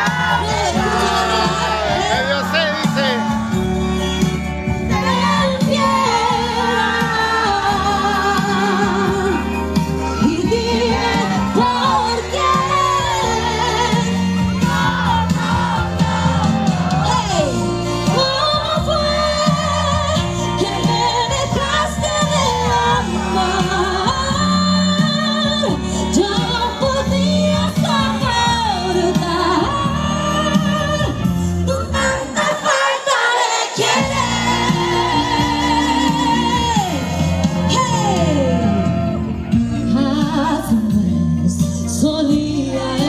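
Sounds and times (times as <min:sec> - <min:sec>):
amplified backing music: 0:00.0 - 0:43.0
woman singing a ballad: 0:04.8 - 0:43.0.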